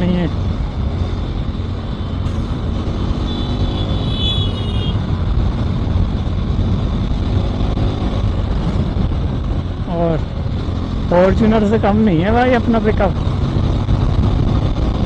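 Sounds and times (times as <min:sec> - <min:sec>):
motorcycle engine drone: 0:00.0 - 0:15.0
wind and road noise: 0:00.0 - 0:15.0.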